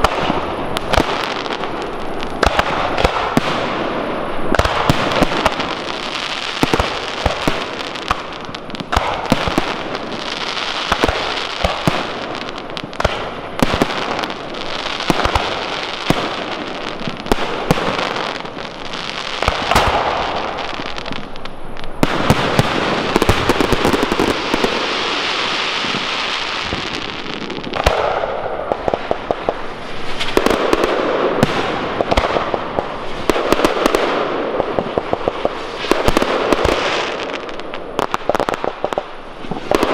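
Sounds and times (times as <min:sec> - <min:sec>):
fireworks crackling and hissing: 0:00.0 - 0:39.9.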